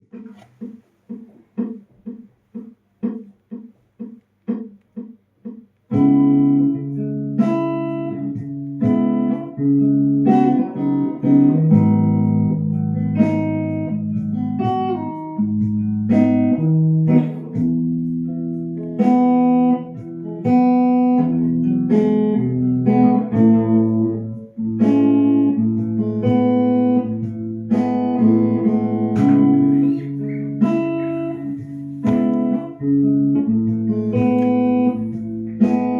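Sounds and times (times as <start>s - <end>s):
muffled repeated notes: 0.0s - 35.9s
plucked guitar music: 0.0s - 35.9s.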